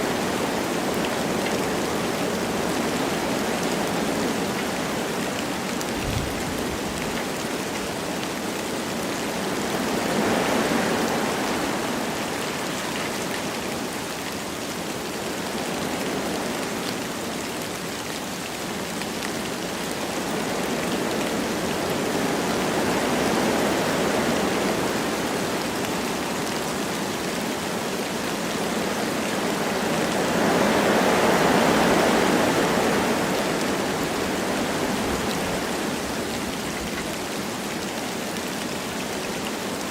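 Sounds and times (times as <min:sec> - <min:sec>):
light rain falling: 0:00.0 - 0:39.9
wind blowing through trees: 0:00.0 - 0:39.9.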